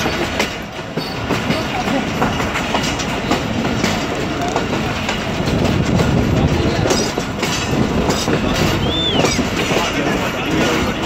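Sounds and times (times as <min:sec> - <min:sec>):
clicks and clunks over track: 0:00.0 - 0:11.0
train wheels rumbling on rails: 0:00.0 - 0:11.0.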